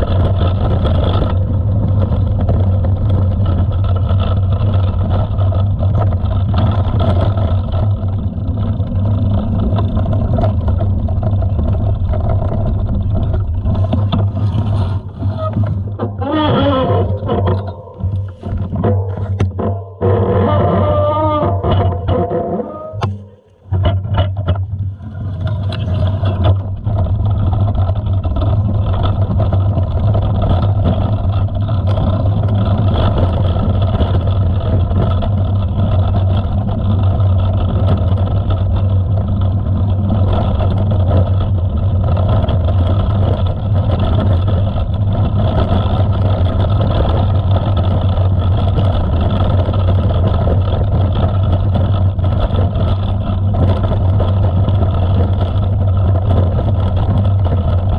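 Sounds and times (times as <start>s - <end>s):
bike tyres rumbling on gravel: 0.0s - 57.9s
wind on microphone: 0.0s - 57.9s.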